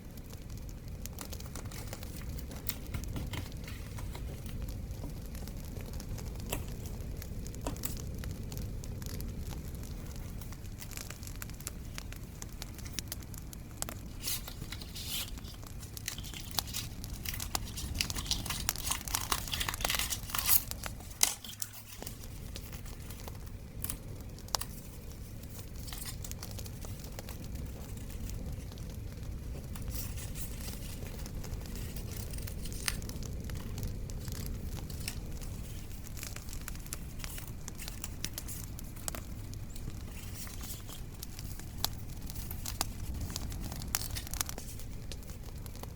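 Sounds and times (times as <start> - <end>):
bonfire crackling: 0.0 - 45.9
paper crinkling and tearing: 1.2 - 8.1, 10.1 - 45.9.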